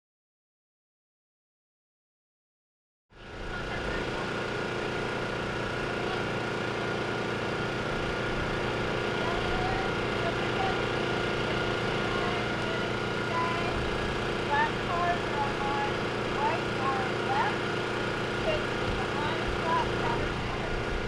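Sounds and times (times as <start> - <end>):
engine-like hum: 3.2 - 21.0
faint voices: 3.2 - 21.0.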